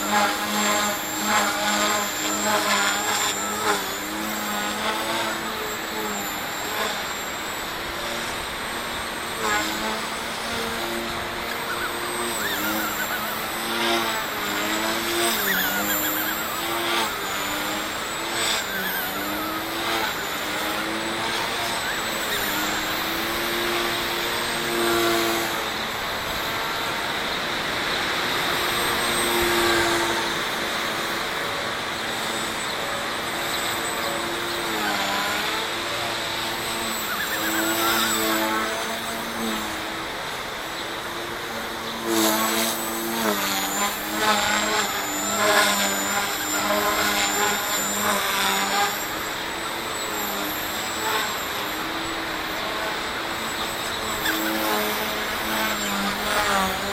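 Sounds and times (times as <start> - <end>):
rc helicopter rotor buzz: 0.0 - 56.9.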